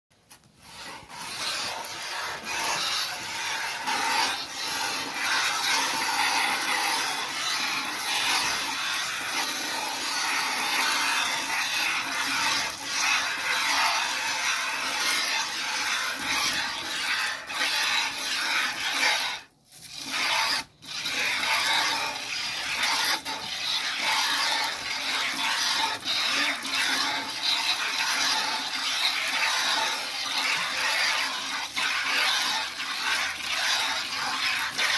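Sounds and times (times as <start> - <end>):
milk squirting into bucket: 0.6 - 34.9.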